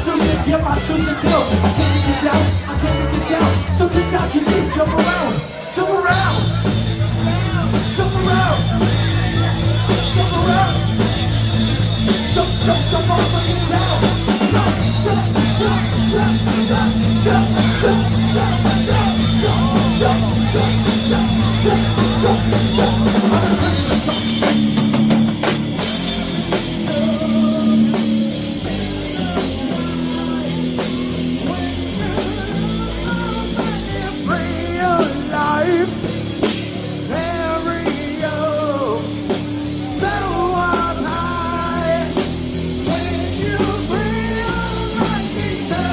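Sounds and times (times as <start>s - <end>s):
person singing: 0.0s - 24.6s, 25.8s - 36.1s, 36.9s - 45.9s
drums: 0.0s - 45.9s
guitar: 0.0s - 45.9s.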